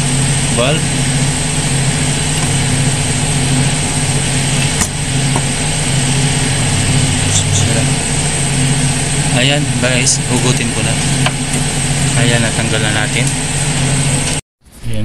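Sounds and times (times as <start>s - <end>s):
engine idling: 0.0s - 14.4s.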